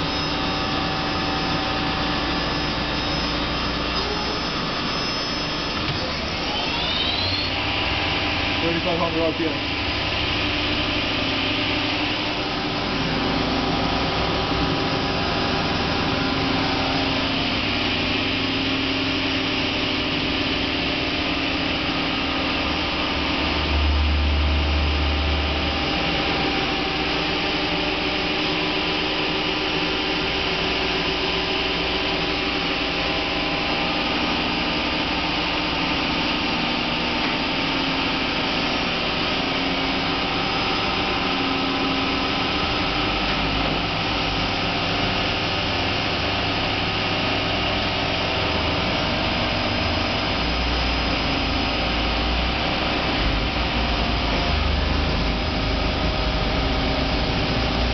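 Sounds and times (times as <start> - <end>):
deeper hum: 0.0 - 57.9
machine hum and whine: 0.0 - 57.9.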